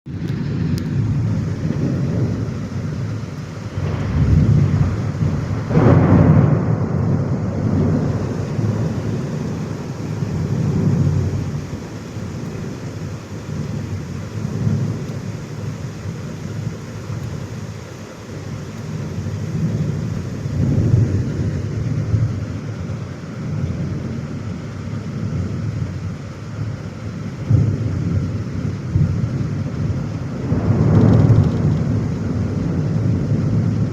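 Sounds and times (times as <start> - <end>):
rain falling: 0.1 - 33.9
rolling thunder: 0.1 - 33.9.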